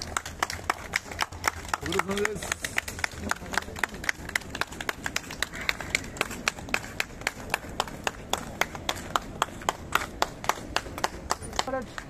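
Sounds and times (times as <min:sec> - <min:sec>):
spectators clapping: 0:00.0 - 0:12.0.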